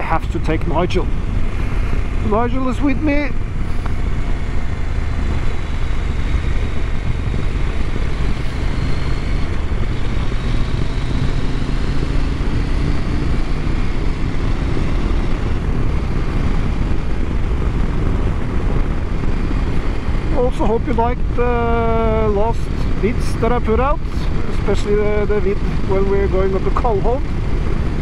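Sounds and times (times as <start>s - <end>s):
motorcycle engine running: 0.0s - 28.0s
wind rushing on microphone: 0.0s - 28.0s.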